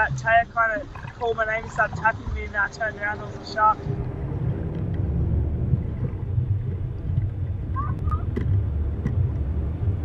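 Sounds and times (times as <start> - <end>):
low underwater rumbling: 0.0 - 10.0.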